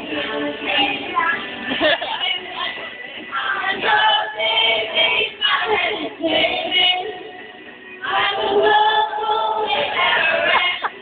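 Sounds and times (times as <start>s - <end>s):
group singing: 0.0s - 11.0s.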